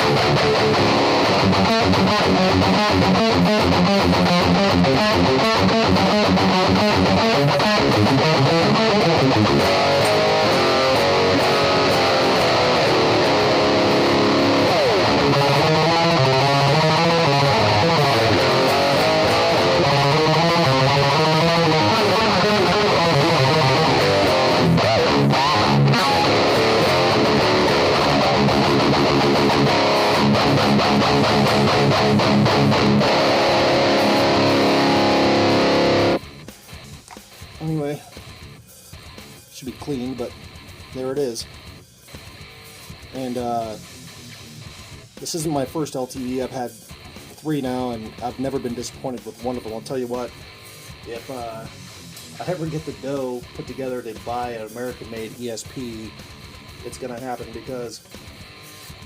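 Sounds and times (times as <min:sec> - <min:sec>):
distorted electric guitar riffing: 0:00.0 - 0:59.0.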